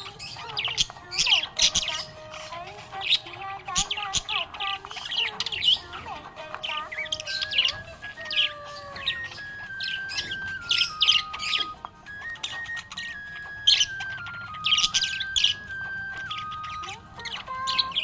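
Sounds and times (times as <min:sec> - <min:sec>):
budgerigars chirping: 0:00.0 - 0:18.0
simple tune of held notes: 0:00.0 - 0:18.0.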